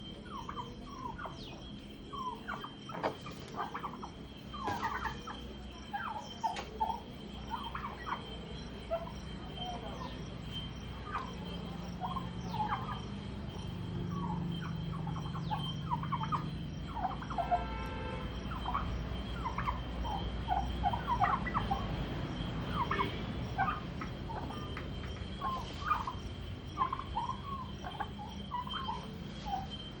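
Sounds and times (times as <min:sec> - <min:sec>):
turkeys calling: 0:00.0 - 0:30.0.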